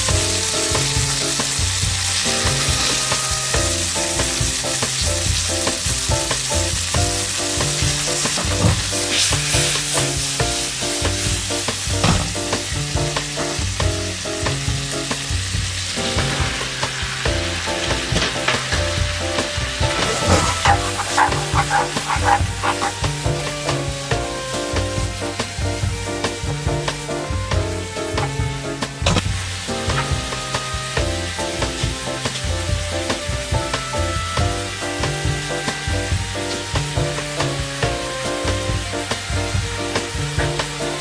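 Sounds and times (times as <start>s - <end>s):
background music: 0.0s - 41.0s
food sizzling in a pan: 0.0s - 41.0s.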